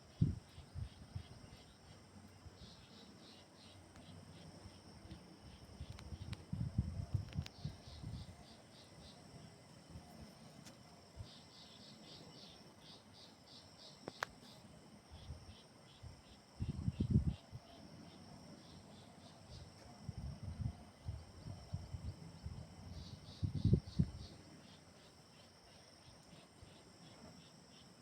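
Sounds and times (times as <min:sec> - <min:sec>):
insects chirping in pulses: 0:00.0 - 0:28.0.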